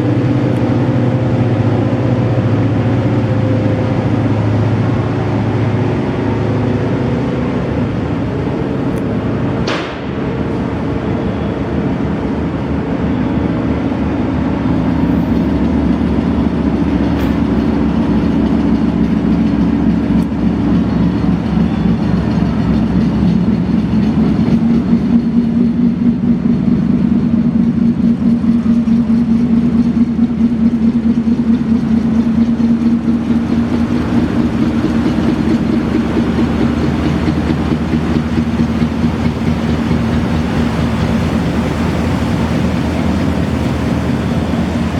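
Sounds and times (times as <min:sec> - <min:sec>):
ferry engines droning: 0:00.0 - 0:44.9.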